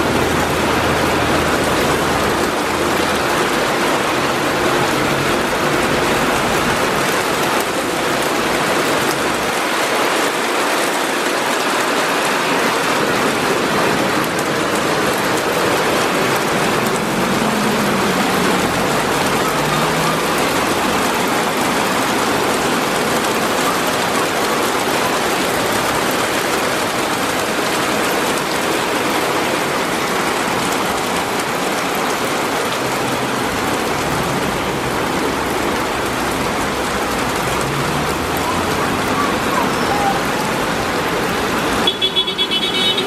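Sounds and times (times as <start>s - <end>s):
heavy rain pouring: 0.0s - 43.0s
vehicles splashing through water: 0.0s - 43.0s.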